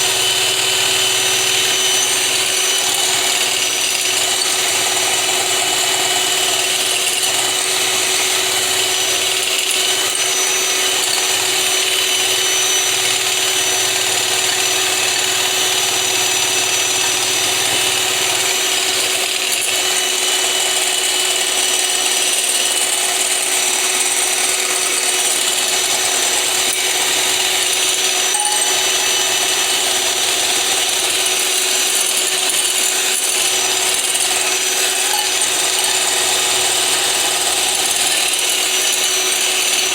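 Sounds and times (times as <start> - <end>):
electric blender whining: 0.0 - 39.9.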